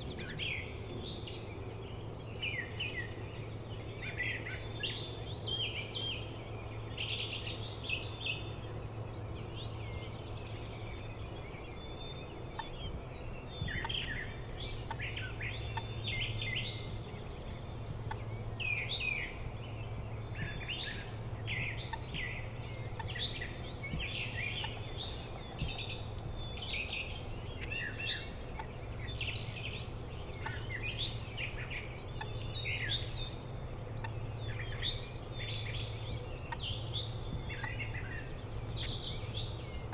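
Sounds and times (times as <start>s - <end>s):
birds chirping and trilling: 0.0s - 39.9s
low steady hum: 0.0s - 39.9s.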